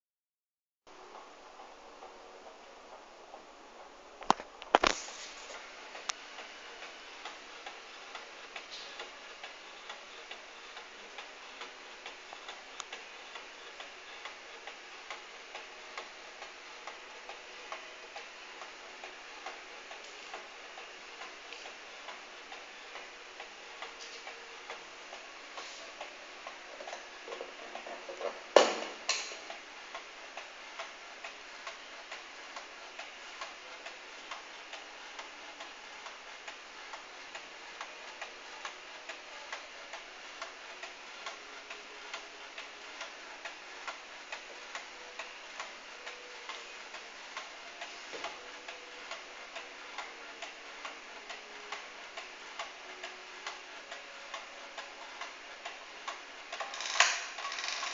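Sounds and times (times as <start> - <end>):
clock ticking: 6.0 - 57.9.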